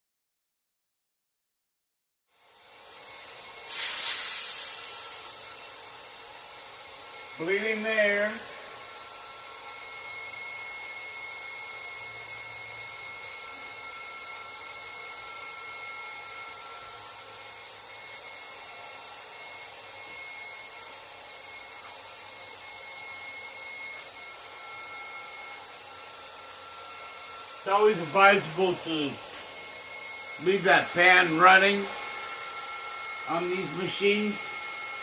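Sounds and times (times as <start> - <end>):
air compressor whirring: 2.3 - 35.0.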